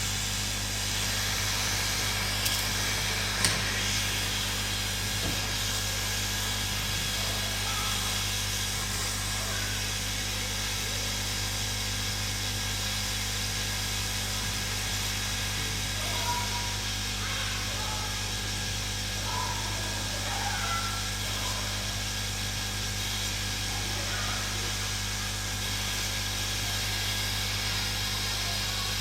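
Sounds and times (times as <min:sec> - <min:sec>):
hot-air blower hissing: 0:00.0 - 0:29.0.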